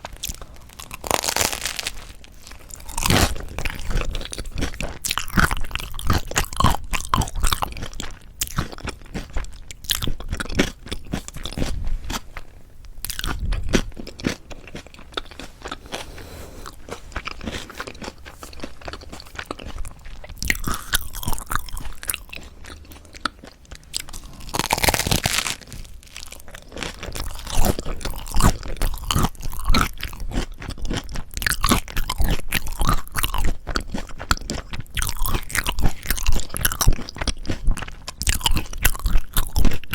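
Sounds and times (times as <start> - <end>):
crunching and chewing bread: 0.0 - 39.9.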